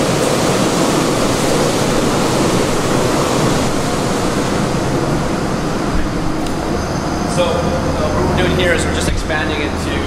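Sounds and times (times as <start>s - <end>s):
air-handling fans rushing: 0.0s - 10.0s.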